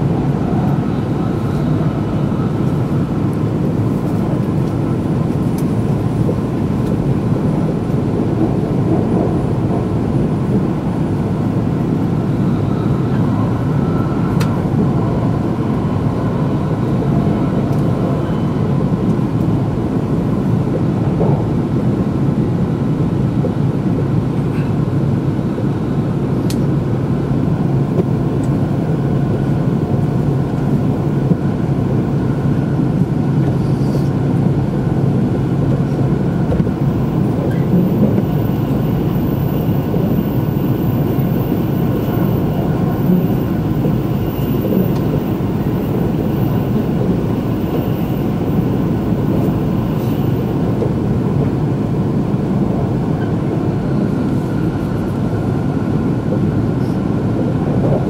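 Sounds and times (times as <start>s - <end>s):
train running inside cabin: 0.0s - 58.0s.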